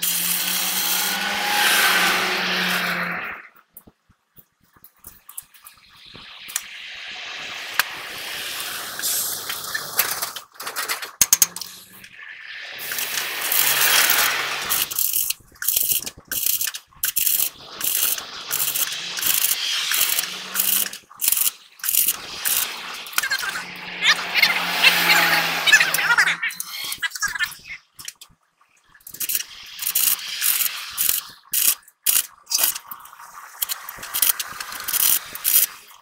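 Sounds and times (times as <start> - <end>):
welding arc crackling: 0.0 - 2.9, 4.7 - 27.4, 29.0 - 36.0.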